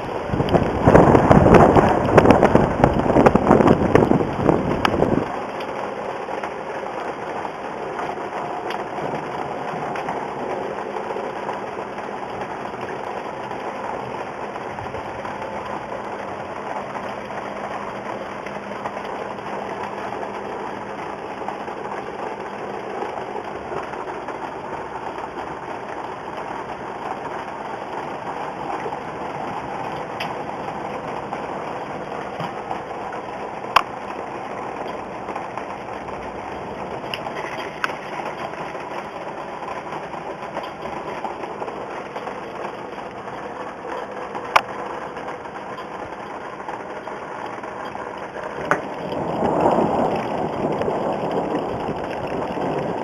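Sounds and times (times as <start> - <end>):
heavy rain hissing: 0.0 - 53.0
loud rush of noise: 0.0 - 53.0.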